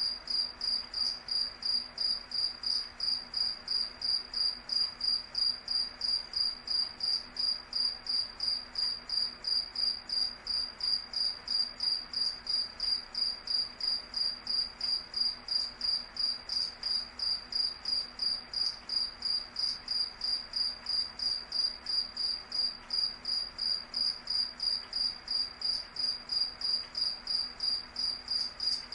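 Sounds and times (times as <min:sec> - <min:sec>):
cricket chirping: 0:00.0 - 0:28.9.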